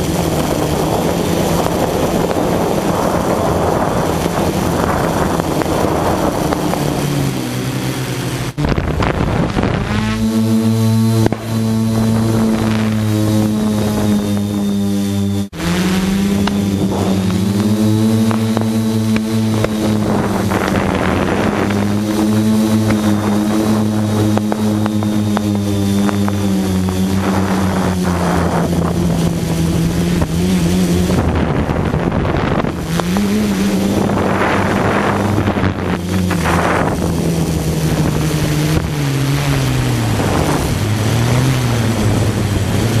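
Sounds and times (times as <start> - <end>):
drone propellers humming: 0.0 - 43.0.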